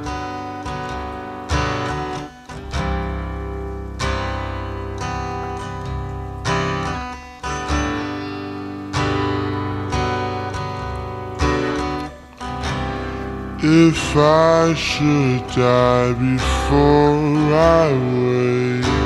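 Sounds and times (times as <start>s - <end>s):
reverb-heavy acoustic guitar chords: 0.0s - 19.0s.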